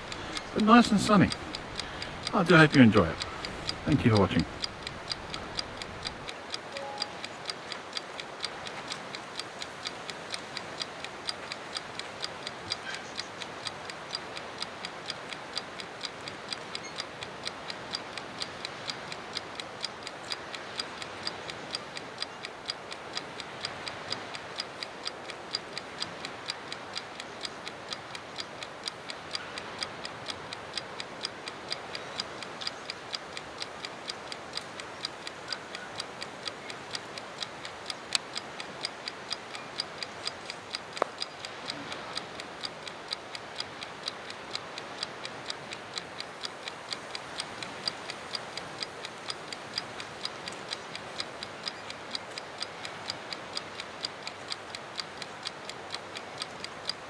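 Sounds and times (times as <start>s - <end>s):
clockwork camera base ticking: 0.0s - 57.0s.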